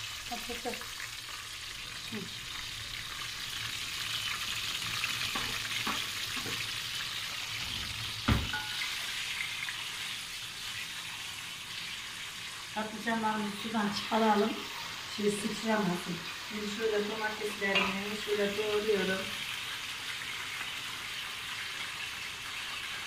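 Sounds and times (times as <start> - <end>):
peppers sizzling in oil: 0.0 - 23.0.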